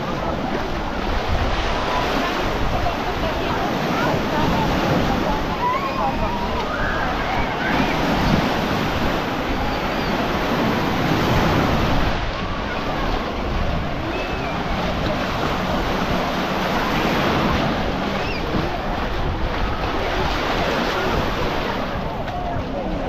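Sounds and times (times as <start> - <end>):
surf washing onto beach: 0.0 - 23.0
wind buffeting microphone: 0.0 - 23.0.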